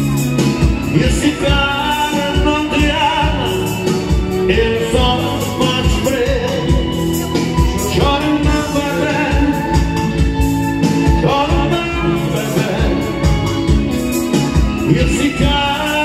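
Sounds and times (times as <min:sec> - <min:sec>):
live pop-rock band: 0:00.0 - 0:16.0
person singing: 0:00.0 - 0:16.0.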